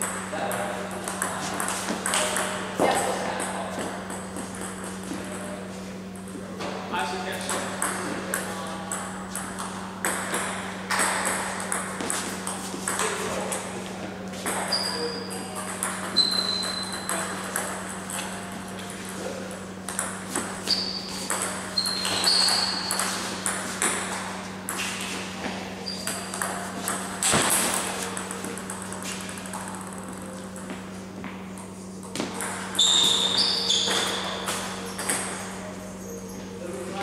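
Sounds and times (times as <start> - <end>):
table tennis balls clicking: 0.0 - 5.1, 7.5 - 13.8, 14.4 - 19.2, 19.9 - 25.2, 25.9 - 35.6
steady low hum: 0.0 - 37.0.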